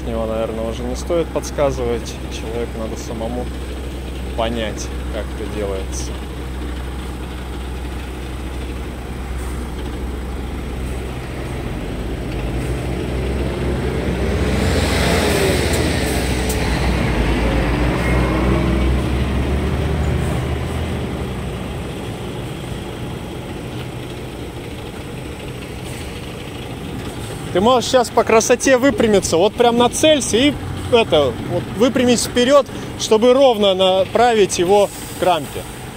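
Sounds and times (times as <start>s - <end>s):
diesel truck engine running: 0.0s - 35.9s.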